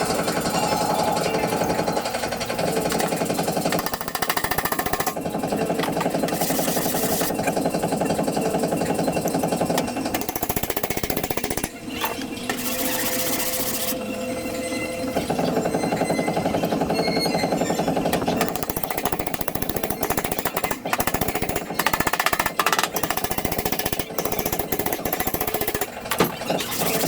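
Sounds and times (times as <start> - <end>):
power tool hammering sheet metal: 1.6 - 8.4, 9.3 - 14.0, 15.6 - 27.0.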